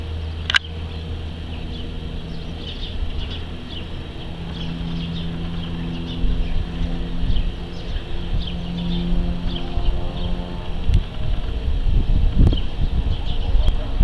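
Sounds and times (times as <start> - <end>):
birds chirping: 0.0 - 14.0
engine idling: 0.0 - 14.0.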